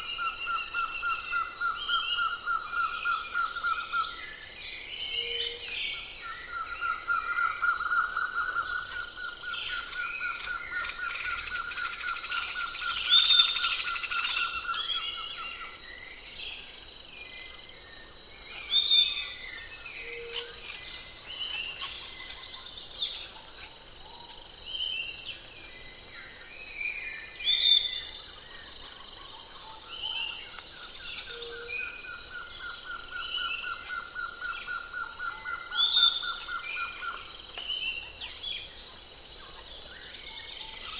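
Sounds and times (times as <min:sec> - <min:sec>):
birds chirping and calling: 0:00.0 - 0:16.6, 0:17.5 - 0:23.9, 0:26.6 - 0:40.9.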